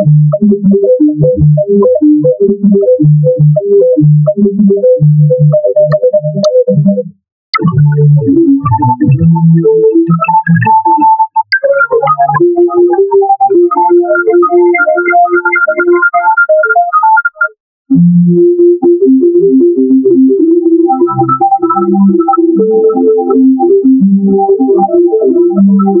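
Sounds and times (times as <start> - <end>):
synthesizer keyboard music: 0.0 - 26.0.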